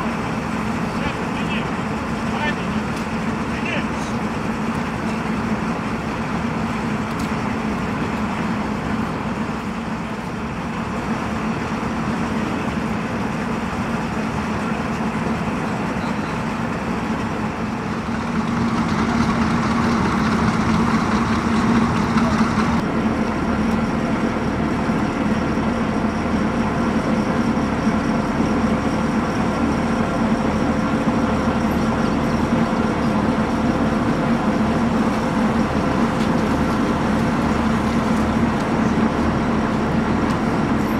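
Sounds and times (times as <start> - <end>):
military vehicle engines droning: 0.0 - 40.9.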